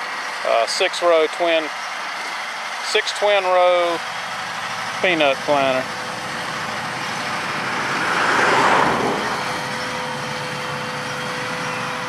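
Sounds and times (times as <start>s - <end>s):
steady whine: 0.0s - 12.0s
tractor engine and machinery: 0.0s - 12.0s.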